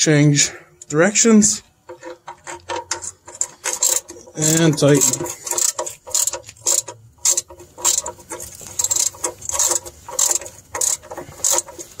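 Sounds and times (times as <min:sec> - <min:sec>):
ratchet wrench clicking: 0:02.0 - 0:12.0.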